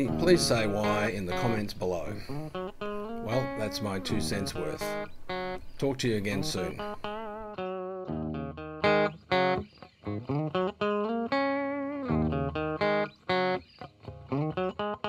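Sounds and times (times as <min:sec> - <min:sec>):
guitar plucking melody: 0:00.0 - 0:15.0.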